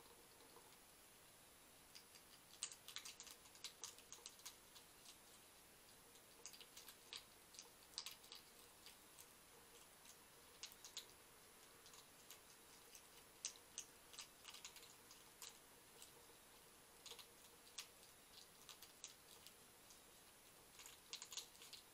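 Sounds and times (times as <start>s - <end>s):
hedgehog crunching dry biscuits: 1.9s - 21.9s.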